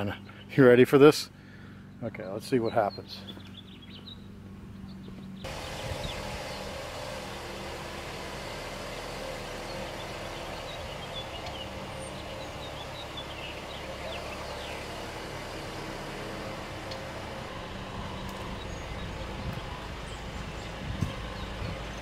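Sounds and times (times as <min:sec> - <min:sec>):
birds chirping: 0:00.0 - 0:22.0
car engine idling: 0:00.0 - 0:22.0.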